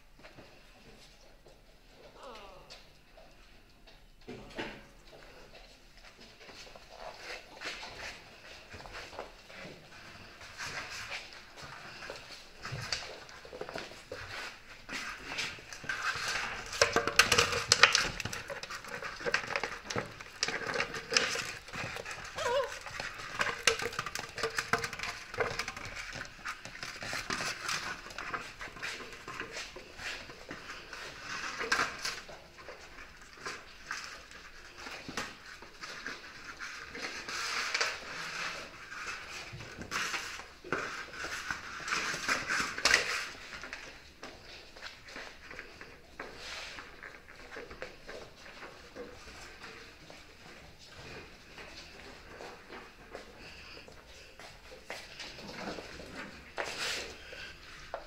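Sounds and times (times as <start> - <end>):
plastic bottle crackling and clattering: 6.4 - 58.0
claws clicking on wooden floor: 10.0 - 58.0.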